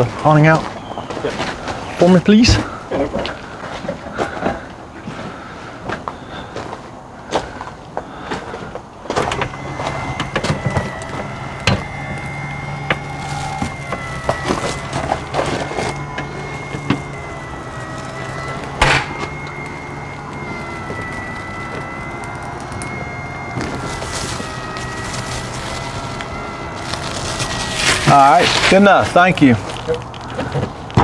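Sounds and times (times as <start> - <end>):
awning motor humming: 0.0 - 6.7, 7.6 - 31.0.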